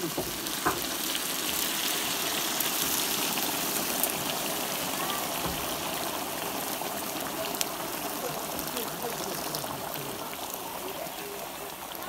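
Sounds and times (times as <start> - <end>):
water splashing and sizzling in hot fat: 0.0 - 12.0.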